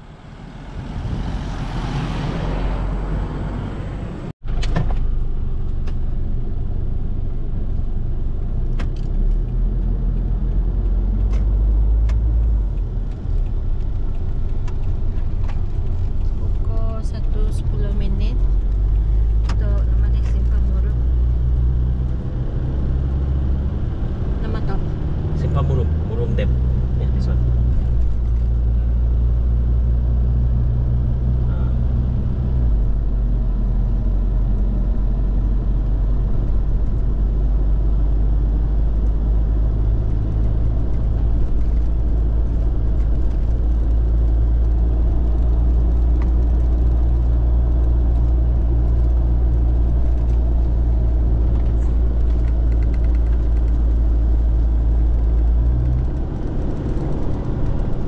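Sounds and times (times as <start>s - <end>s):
road noise: 0.0s - 58.0s
vehicle engine rumble: 0.0s - 58.0s.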